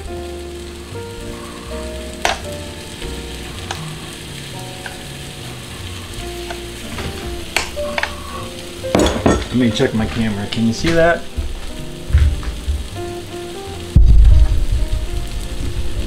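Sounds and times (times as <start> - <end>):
batter sizzling on hot plate: 0.0 - 16.0.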